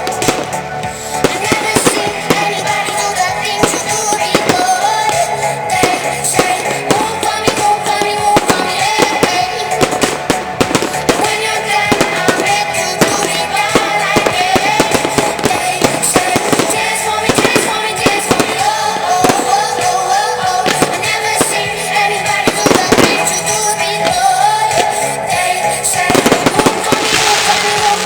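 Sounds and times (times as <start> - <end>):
fireworks bangs and crackles: 0.0 - 28.0
loud music with wavering melody: 0.0 - 28.0.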